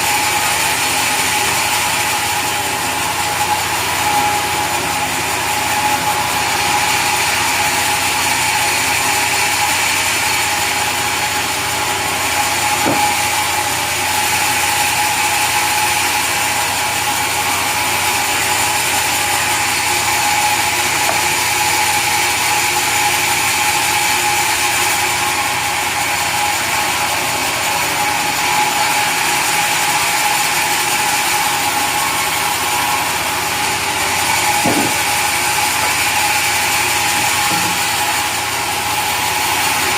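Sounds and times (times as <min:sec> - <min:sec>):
sawmill saw whining: 0:00.0 - 0:39.9.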